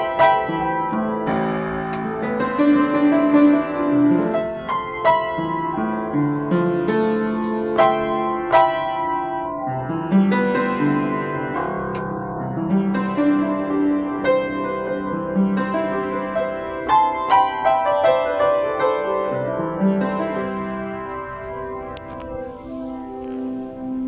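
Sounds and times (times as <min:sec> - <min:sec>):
upright piano playing: 0:00.0 - 0:24.0.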